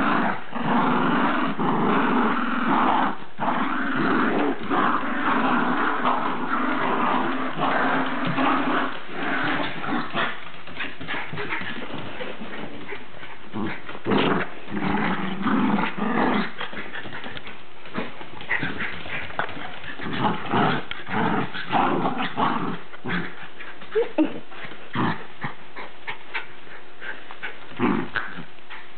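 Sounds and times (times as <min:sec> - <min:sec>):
dogs play-growling: 0:00.0 - 0:28.9.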